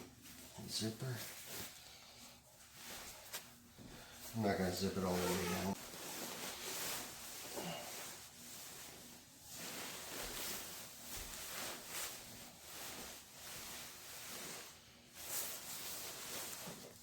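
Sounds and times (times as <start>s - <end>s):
sleeping bag fabric rustling: 0.0s - 17.0s.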